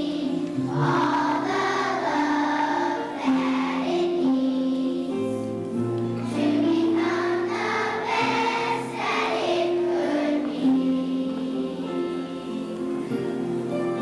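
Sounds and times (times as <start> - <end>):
children's choir singing: 0.0 - 14.0
instrumental accompaniment: 0.0 - 14.0.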